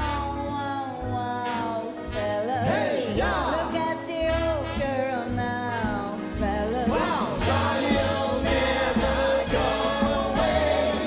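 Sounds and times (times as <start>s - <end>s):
live band accompaniment: 0.0s - 11.0s
singers with vibrato: 0.0s - 11.0s.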